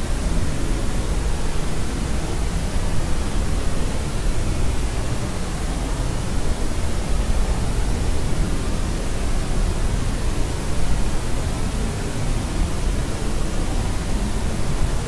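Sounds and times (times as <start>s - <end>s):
steady synthetic noise hiss: 0.0s - 15.0s.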